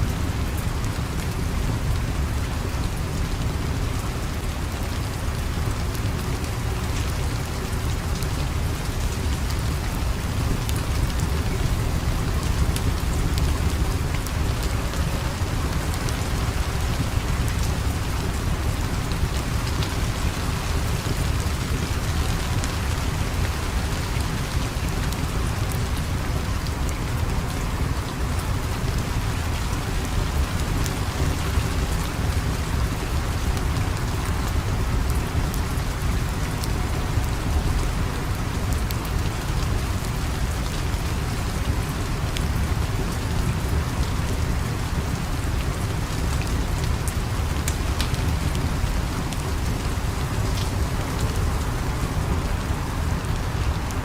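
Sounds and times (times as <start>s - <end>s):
sharp ticks of raindrops: 0.0s - 54.0s
steady rain falling: 0.0s - 54.0s.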